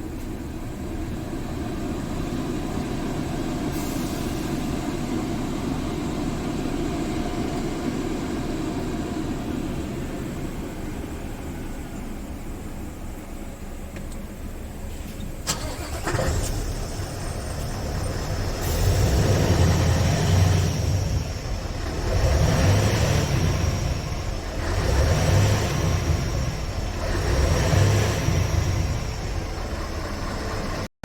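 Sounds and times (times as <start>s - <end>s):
diesel engine revving: 0.0s - 11.8s, 14.9s - 30.9s.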